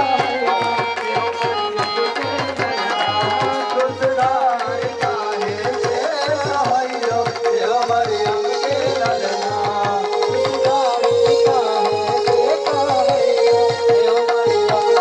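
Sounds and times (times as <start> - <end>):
electronic keyboard melody: 0.0 - 15.0
hand drum beat: 0.0 - 15.0
voices singing: 0.0 - 15.0.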